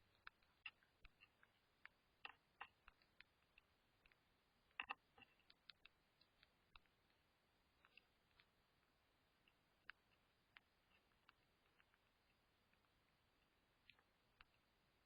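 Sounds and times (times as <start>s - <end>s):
birds pecking at seed: 0.0s - 15.0s.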